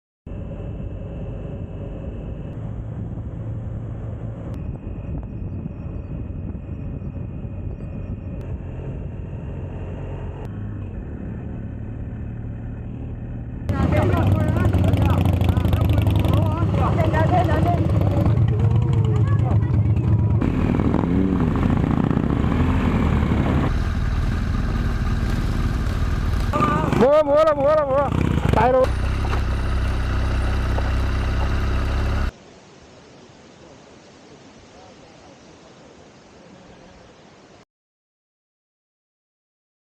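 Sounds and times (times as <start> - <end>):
motorcycle engine running: 0.3 - 32.3
road and wind noise: 0.3 - 37.6.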